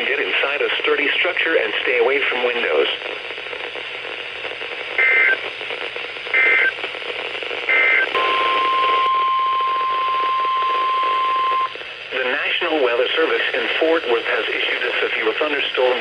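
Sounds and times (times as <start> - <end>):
radio hiss: 0.0 - 16.0.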